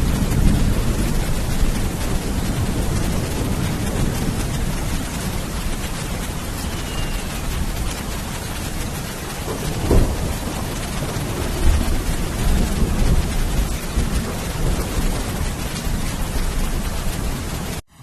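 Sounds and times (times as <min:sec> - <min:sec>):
thunder crack: 0:00.0 - 0:17.8
heavy rainfall: 0:00.0 - 0:18.0
thunder rumbling: 0:00.0 - 0:18.0.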